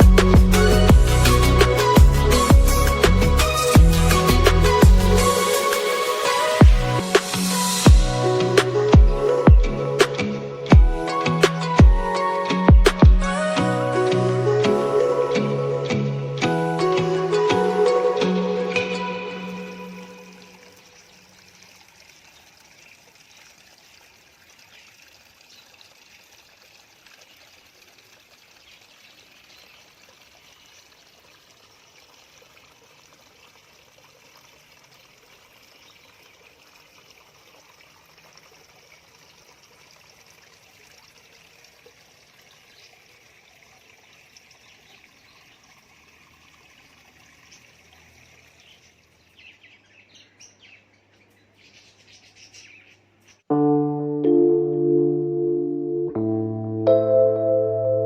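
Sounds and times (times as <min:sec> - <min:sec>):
water trickling and splashing: 0:00.0 - 0:53.5.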